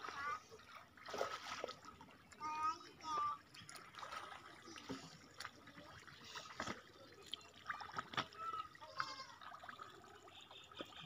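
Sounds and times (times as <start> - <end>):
muddy water splashing and trickling: 0.0 - 11.0.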